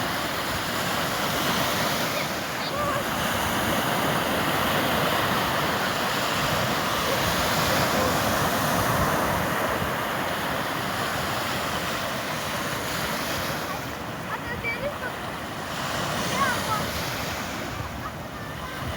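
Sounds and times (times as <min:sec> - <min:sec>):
waves washing ashore: 0:00.0 - 0:18.9.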